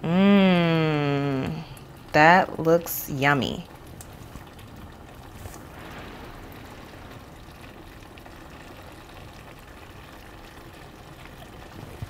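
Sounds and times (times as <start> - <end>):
pot simmering with bubbling hiss: 0.0 - 12.0.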